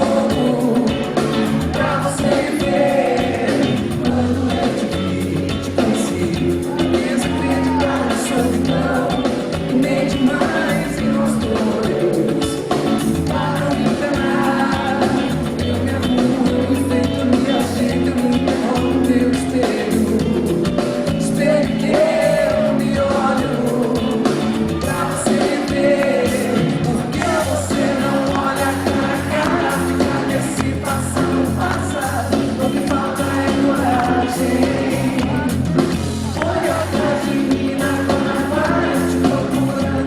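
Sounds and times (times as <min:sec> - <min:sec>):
live band music: 0:00.0 - 0:40.0.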